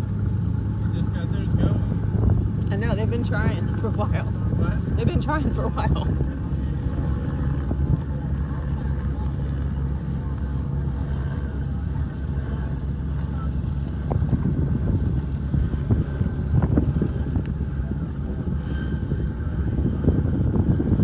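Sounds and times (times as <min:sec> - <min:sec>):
engine humming steadily: 0:00.0 - 0:21.0
wind on microphone: 0:00.0 - 0:21.0.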